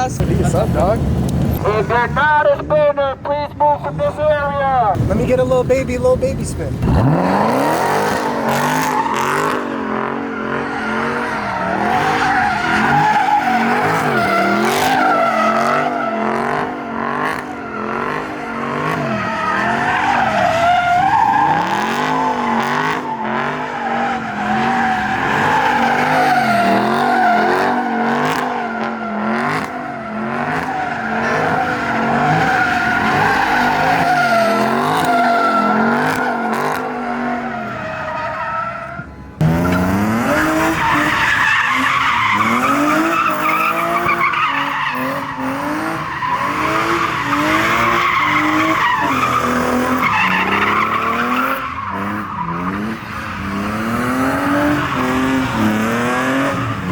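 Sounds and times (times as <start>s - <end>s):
tires squealing: 0.0s - 3.0s, 3.6s - 56.9s
car engine at high revs: 4.9s - 56.9s.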